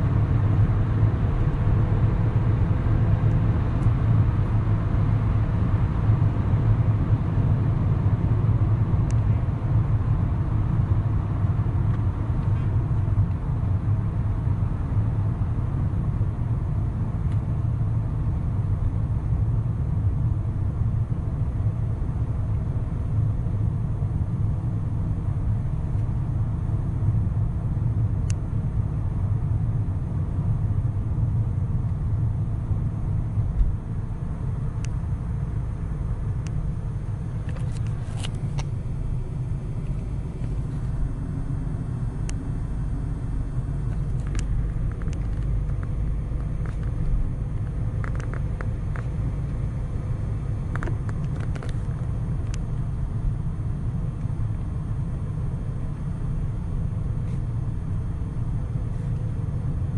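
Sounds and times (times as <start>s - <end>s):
car engine and road noise drone: 0.0s - 59.9s.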